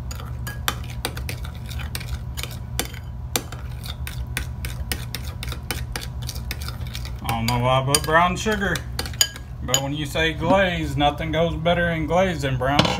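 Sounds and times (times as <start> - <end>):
spoon stirring in ceramic bowl: 0.0 - 10.6.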